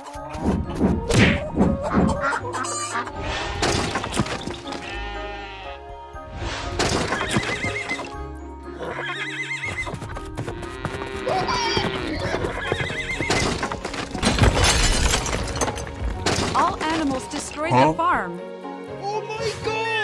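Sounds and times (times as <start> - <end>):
cartoon soundtrack music: 0.0 - 20.0.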